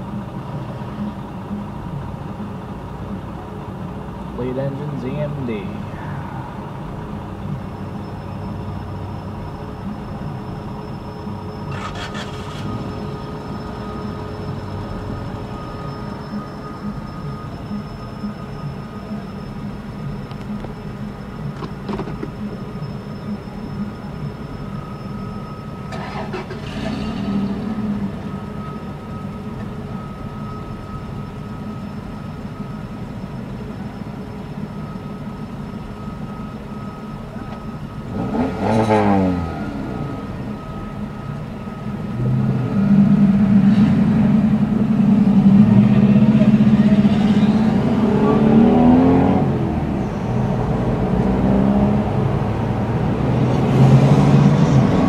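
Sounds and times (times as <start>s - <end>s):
car engines in traffic: 0.0s - 55.0s.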